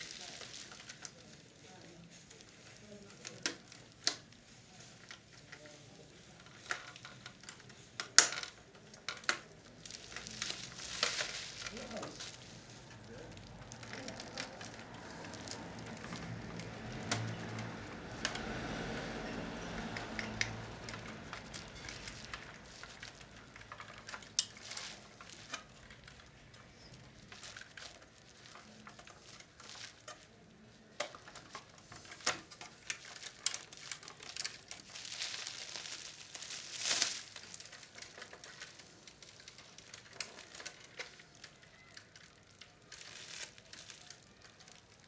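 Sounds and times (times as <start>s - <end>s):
rough scraping and rustling: 0.0s - 8.0s, 8.6s - 45.0s.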